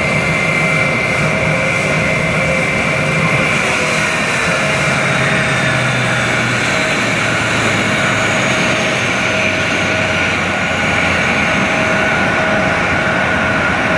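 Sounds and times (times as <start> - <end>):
jet turbines whining: 0.0 - 13.9.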